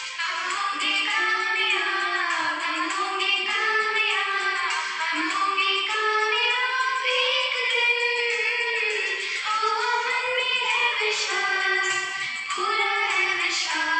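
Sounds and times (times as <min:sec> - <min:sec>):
woman singing a prayer: 0:00.0 - 0:13.9.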